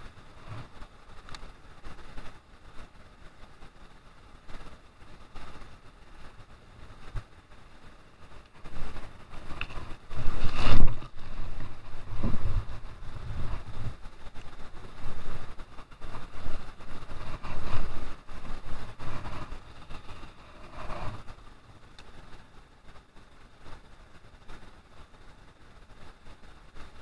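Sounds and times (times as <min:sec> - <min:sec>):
wind buffeting microphone: 0:00.0 - 0:25.0
faint river rapids: 0:00.0 - 0:27.0.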